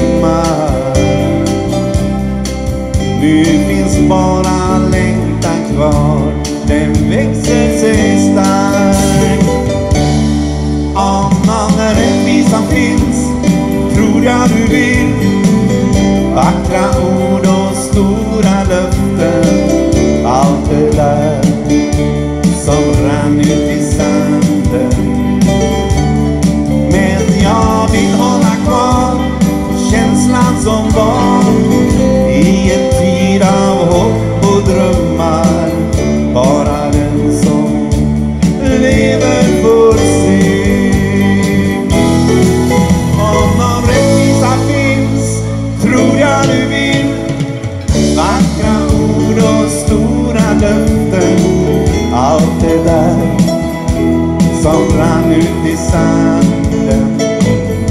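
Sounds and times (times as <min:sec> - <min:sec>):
bass guitar: 0:00.0 - 0:57.9
drum kit: 0:00.0 - 0:57.9
electric guitar bending notes: 0:00.0 - 0:57.9.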